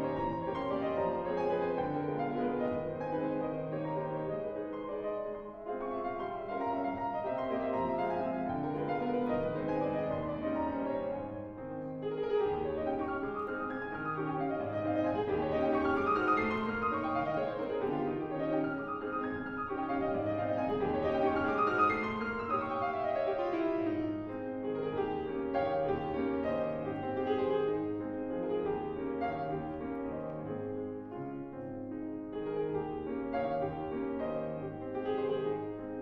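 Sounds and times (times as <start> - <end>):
solo classical piano: 0.0 - 36.0.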